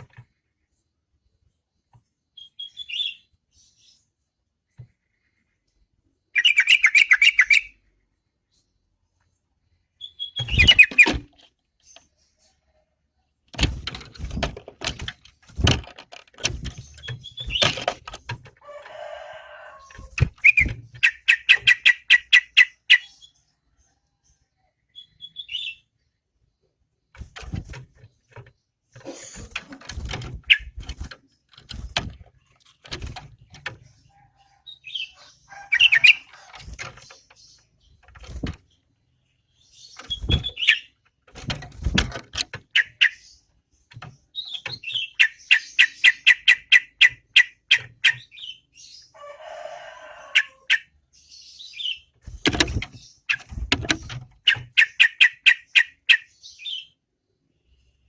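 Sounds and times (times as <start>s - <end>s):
bird chirping and chattering: 1.8s - 5.7s, 6.3s - 12.7s, 13.5s - 18.6s, 19.8s - 23.5s, 24.8s - 49.2s, 50.3s - 57.0s.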